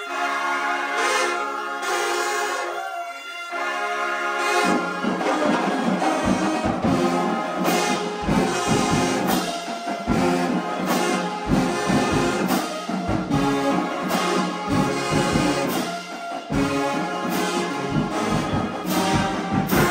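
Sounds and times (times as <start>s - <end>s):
marching band brass playing: 0.0s - 19.9s.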